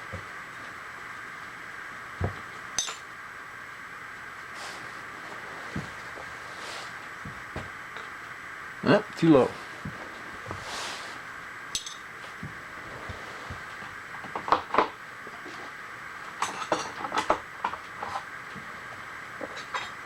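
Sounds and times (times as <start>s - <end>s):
shop hum: 0.0s - 20.0s.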